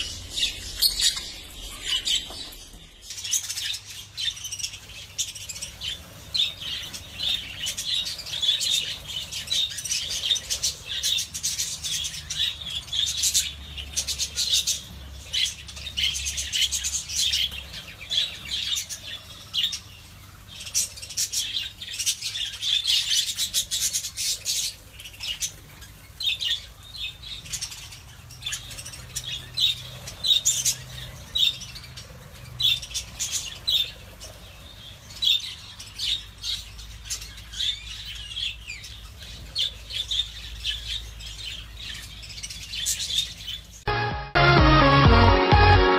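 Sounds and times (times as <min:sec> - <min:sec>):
budgerigars chirping: 0:00.0 - 0:43.8.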